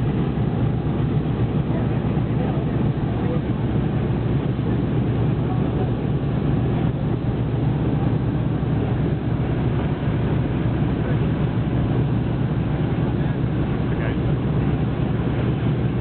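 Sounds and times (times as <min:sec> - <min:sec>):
radial aircraft engines rumbling: 0:00.0 - 0:16.0.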